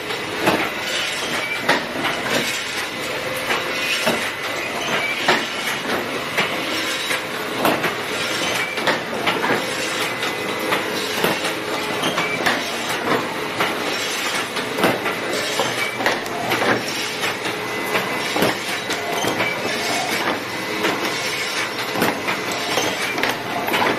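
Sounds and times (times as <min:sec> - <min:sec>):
wire-forming machine clattering: 0:00.0 - 0:23.9.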